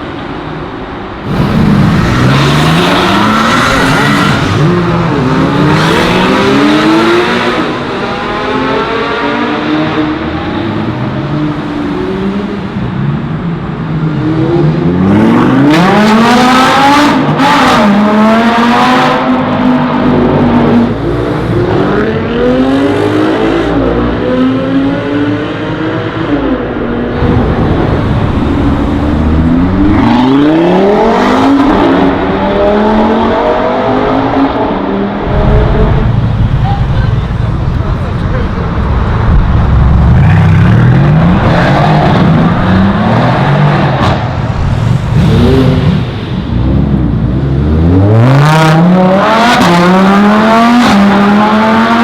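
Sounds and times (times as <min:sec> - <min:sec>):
sports car engines accelerating: 0:00.3 - 0:52.0.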